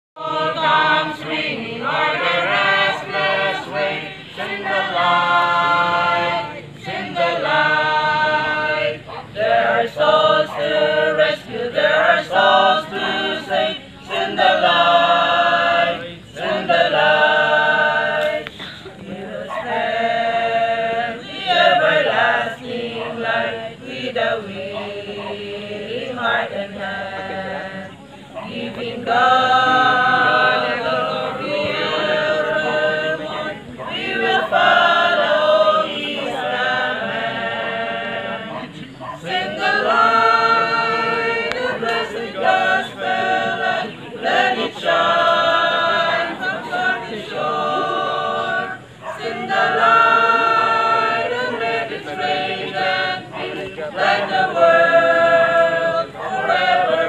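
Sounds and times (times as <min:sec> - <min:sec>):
choir singing unaccompanied: 0:00.2 - 0:57.0.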